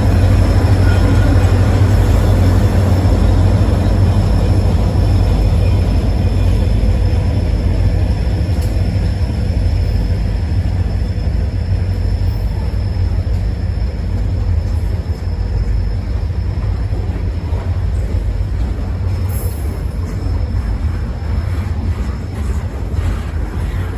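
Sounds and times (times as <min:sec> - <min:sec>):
freight train rumbling past: 0:00.0 - 0:23.9.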